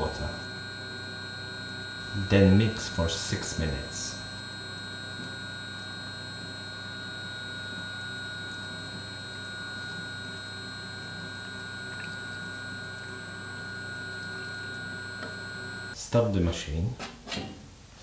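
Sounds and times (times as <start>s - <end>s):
pasta machine motor humming: 0.0s - 16.0s.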